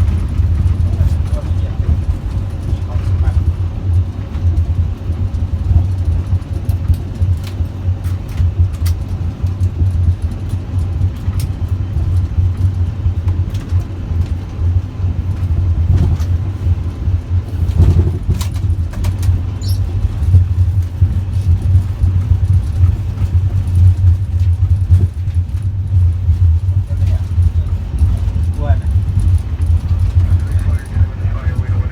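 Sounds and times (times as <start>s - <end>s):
low rumble in airliner cockpit: 0.0s - 31.9s.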